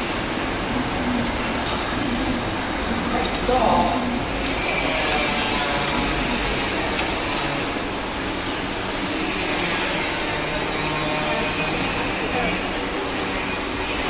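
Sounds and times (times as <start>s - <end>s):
labeling machine whir and hiss: 0.0s - 14.0s.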